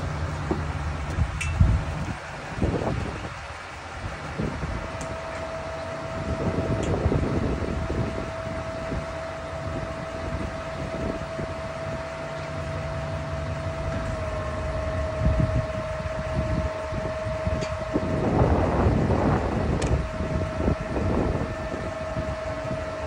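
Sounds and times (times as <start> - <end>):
diesel engine idling: 0.0 - 22.7
steady high whine: 0.0 - 23.0
wind buffeting microphone: 0.0 - 23.0.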